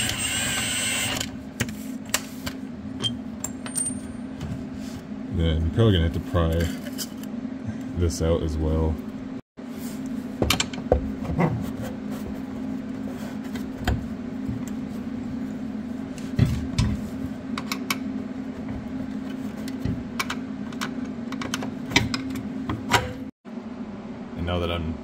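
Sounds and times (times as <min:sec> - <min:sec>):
steady low hum: 0:00.1 - 0:25.0.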